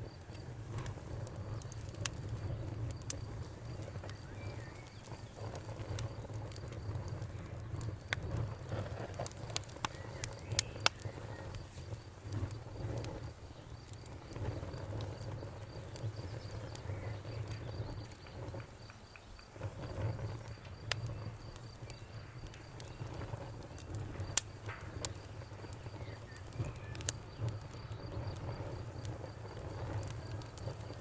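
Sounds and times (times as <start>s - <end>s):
crickets chirping: 0.0s - 31.0s
wood fire crackling and popping: 0.0s - 31.0s.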